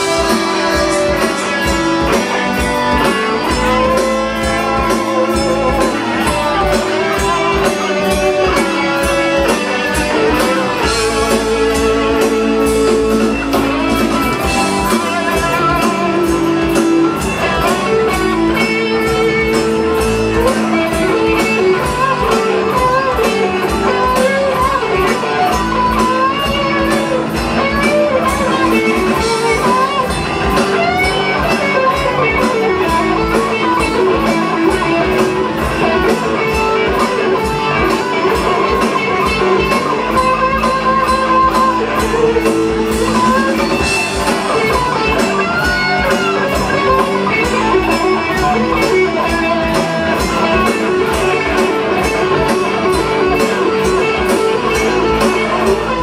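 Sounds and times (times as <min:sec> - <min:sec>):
electric guitar lead: 0:00.0 - 0:56.0
live rock band playing: 0:00.0 - 0:56.0.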